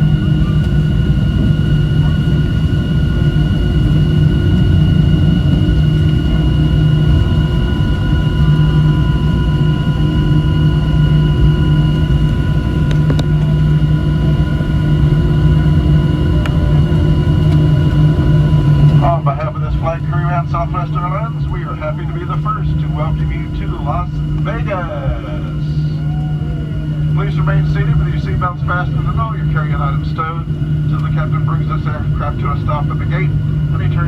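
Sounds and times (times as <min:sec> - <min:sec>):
airplane cabin engine rumble: 0:00.0 - 0:34.0
constant whining tones: 0:00.0 - 0:34.0.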